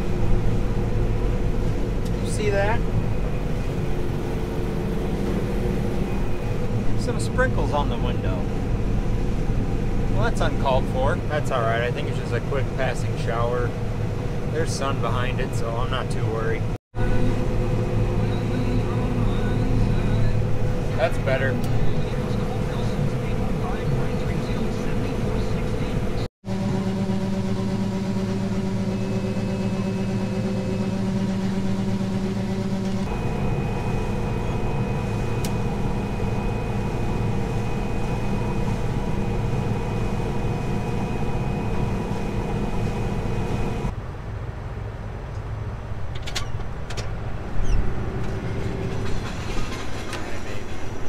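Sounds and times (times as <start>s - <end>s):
combine harvester running: 0.0s - 44.1s, 45.2s - 51.0s.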